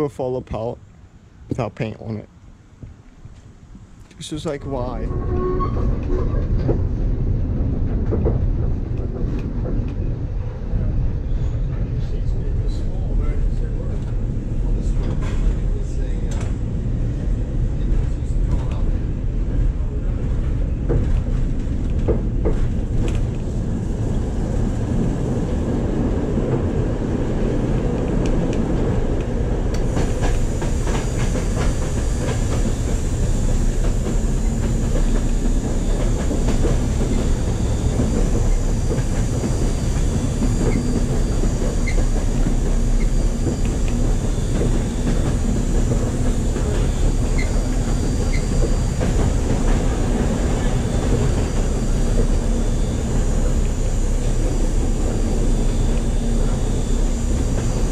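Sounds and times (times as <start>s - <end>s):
wheels rumbling on rail: 0.0s - 57.9s
faint steady whine: 8.7s - 57.9s.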